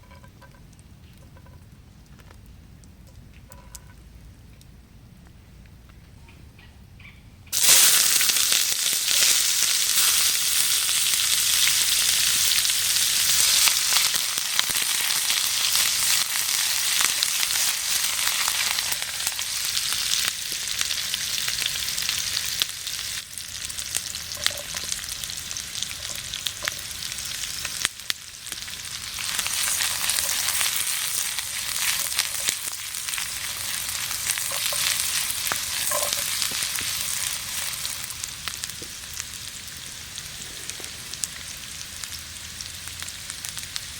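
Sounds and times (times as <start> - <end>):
food sizzling in hot oil: 7.5 - 43.9.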